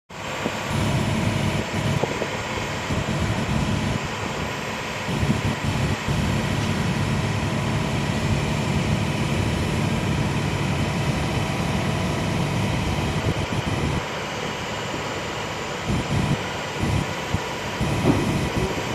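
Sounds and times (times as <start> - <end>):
excavator diesel engine running: 0.1 - 18.9.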